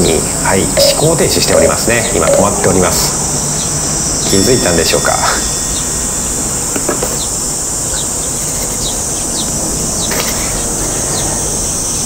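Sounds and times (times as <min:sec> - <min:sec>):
bird chirping: 0:00.0 - 0:12.0
insects droning: 0:00.0 - 0:12.0.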